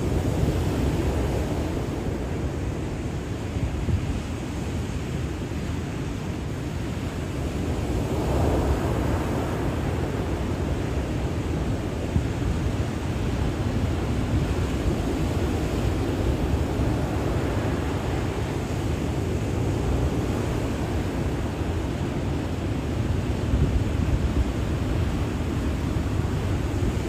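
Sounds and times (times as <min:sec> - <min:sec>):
ocean waves breaking: 0:00.0 - 0:27.0.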